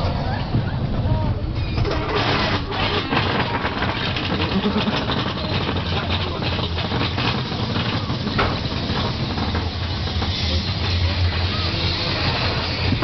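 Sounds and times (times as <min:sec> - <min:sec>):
low rumble: 0:00.0 - 0:13.0
roller coaster rattling on track: 0:00.0 - 0:13.0.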